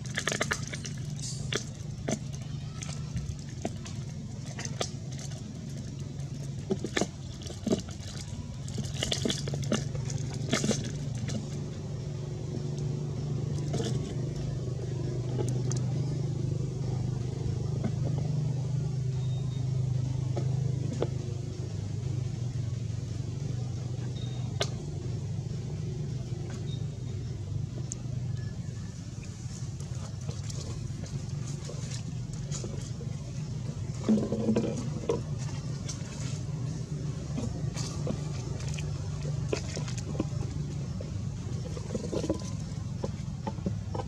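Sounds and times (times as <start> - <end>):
low engine hum: 0.0 - 44.0.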